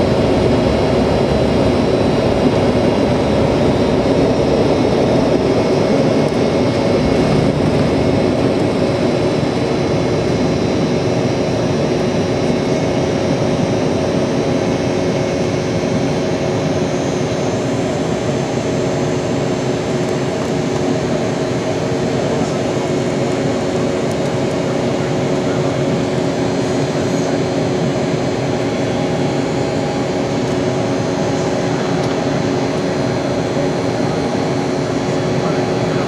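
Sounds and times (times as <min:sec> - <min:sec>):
airplane engines drone: 0:00.0 - 0:36.0.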